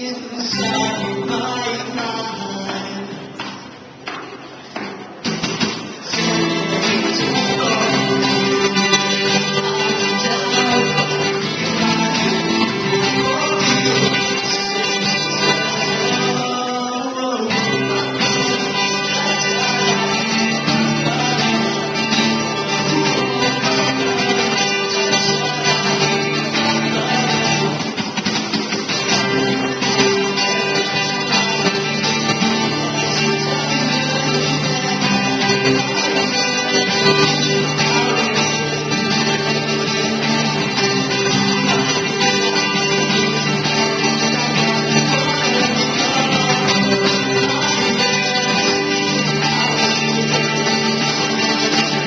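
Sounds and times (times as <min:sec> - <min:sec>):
acoustic guitar chords: 0:00.0 - 0:52.0.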